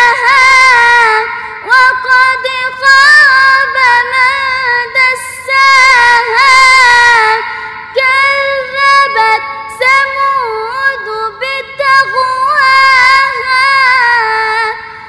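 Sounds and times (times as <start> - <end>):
girl reciting melodically: 0.0 - 15.0.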